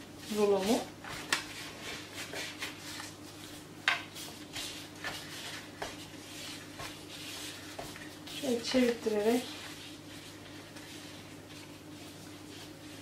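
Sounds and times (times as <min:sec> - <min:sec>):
faint steady hum: 0:00.0 - 0:13.0
hands handling dough: 0:00.2 - 0:13.0.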